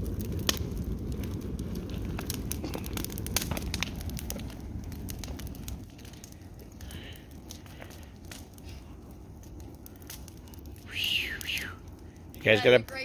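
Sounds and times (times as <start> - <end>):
bonfire low rush: 0.0 - 13.0
burning wood crackling and popping: 0.0 - 13.0.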